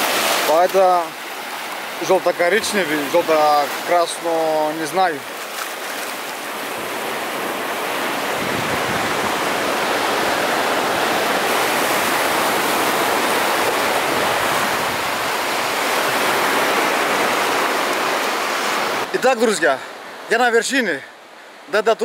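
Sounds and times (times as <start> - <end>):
sea surf washing over sand: 0.0 - 22.0.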